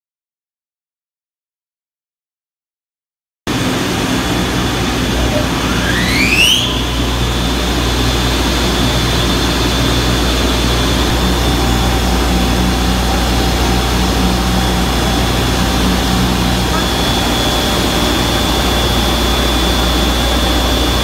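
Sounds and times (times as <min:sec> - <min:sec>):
pump machinery humming: 0:03.5 - 0:21.0
rising motor whine: 0:03.5 - 0:21.0.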